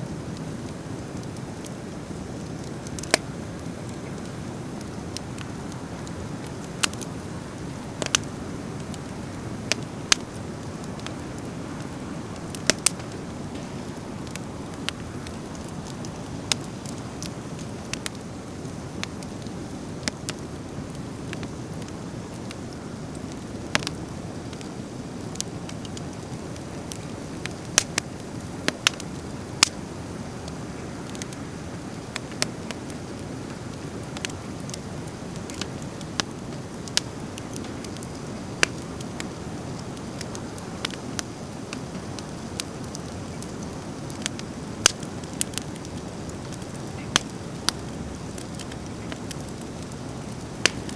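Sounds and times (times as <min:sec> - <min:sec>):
campfire crackling and popping: 0:00.0 - 0:50.9
low rumble of burning: 0:00.0 - 0:50.9.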